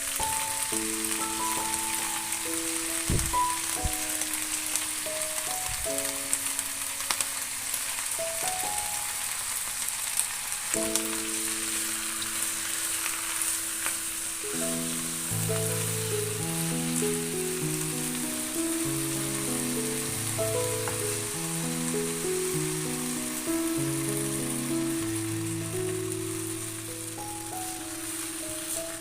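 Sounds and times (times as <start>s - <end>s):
melodic background music: 0.0s - 29.0s
vegetables sizzling in a pan: 0.0s - 29.0s.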